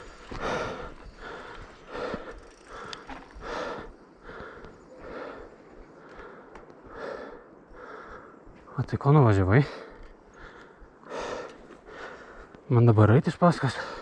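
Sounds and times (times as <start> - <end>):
person breathing hard: 0.0 - 8.5, 9.7 - 12.6.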